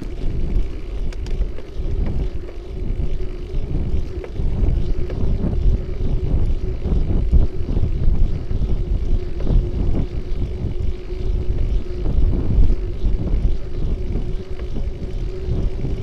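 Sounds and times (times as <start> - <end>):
road rumble: 0.0 - 16.0
steady hum: 0.0 - 16.0
wind buffeting microphone: 0.0 - 16.0.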